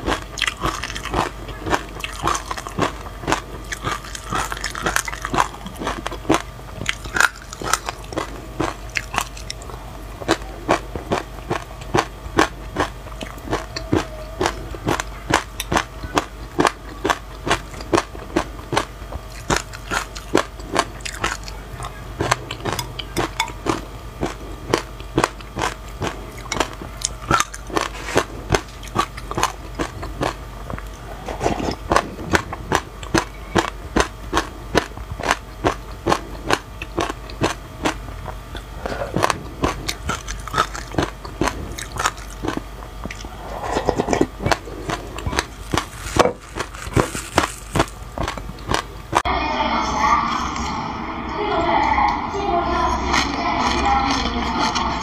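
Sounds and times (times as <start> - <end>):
crisp crunching of seeds: 0.0 - 49.2.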